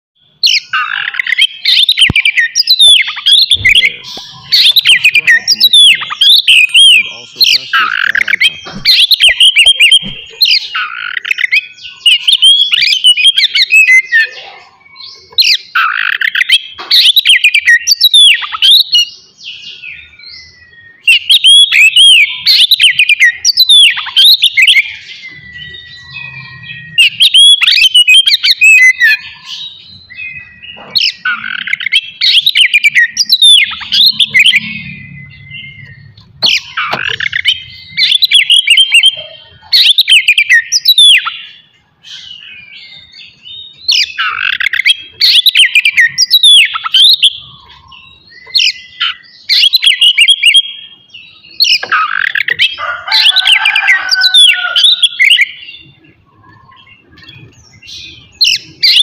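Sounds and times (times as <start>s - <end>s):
bird singing whistles and trills: 0.2s - 59.0s.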